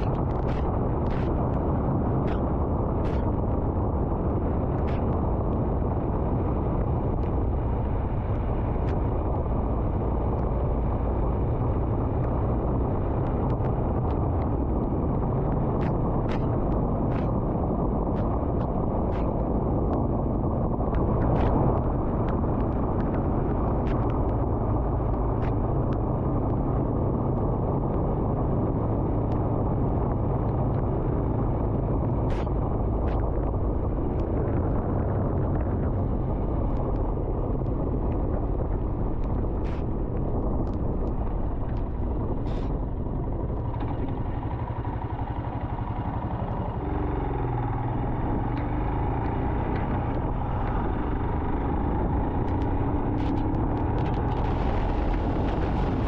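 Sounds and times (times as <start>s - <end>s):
wind rush: 0.0s - 56.0s.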